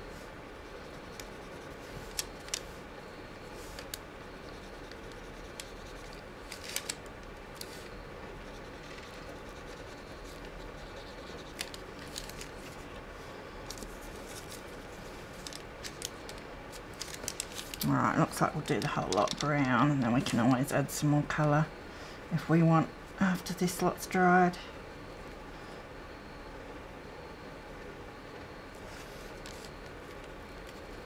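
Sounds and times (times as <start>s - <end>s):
faint background hum: 0.0s - 31.0s.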